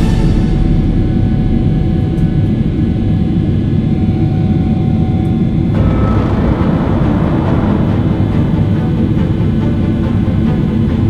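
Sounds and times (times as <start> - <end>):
airliner cabin jet engine roar: 0.0 - 11.0.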